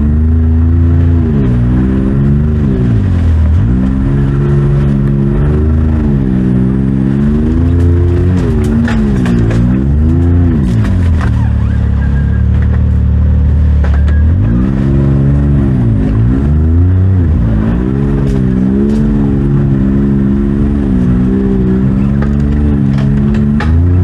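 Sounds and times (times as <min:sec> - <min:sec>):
utility vehicle engine revving: 0:00.0 - 0:24.0.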